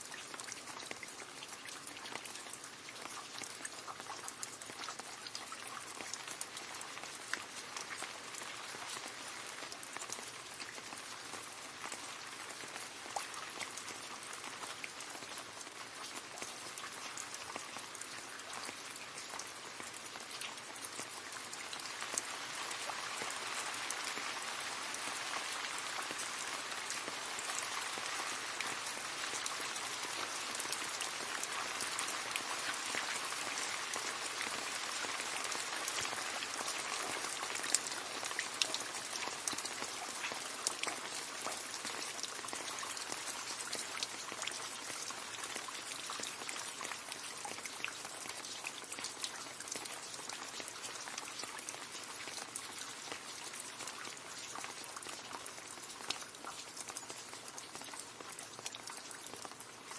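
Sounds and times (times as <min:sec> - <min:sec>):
rain splashing into puddle: 0:00.0 - 0:59.9.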